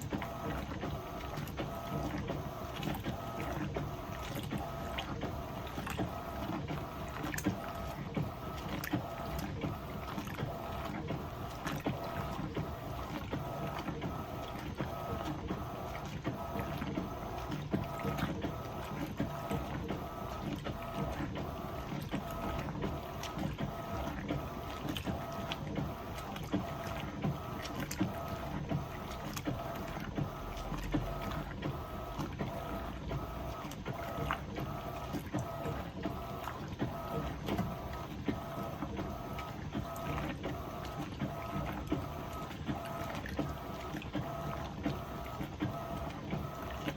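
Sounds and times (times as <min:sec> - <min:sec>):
washing machine motor whine pulsing: 0:00.0 - 0:46.9.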